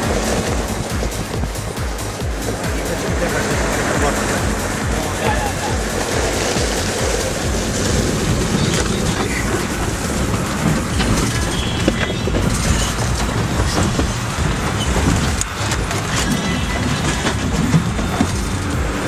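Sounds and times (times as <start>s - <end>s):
engine and tyres rumbling: 0.0s - 19.0s
vehicle rattling and knocking: 0.0s - 19.0s.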